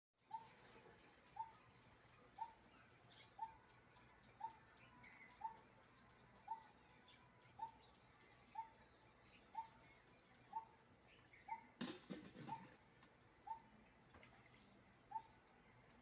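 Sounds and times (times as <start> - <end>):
bird calling a monotonous tuk: 0.2 - 16.0
higher bird chirps: 1.3 - 11.8, 12.4 - 15.8.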